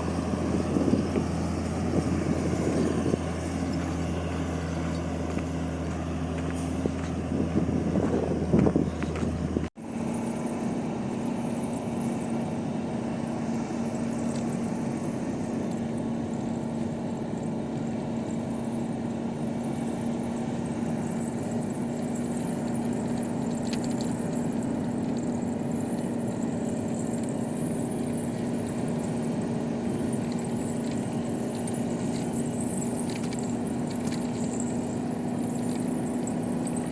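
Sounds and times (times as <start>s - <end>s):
truck diesel engine droning: 0.0s - 36.9s.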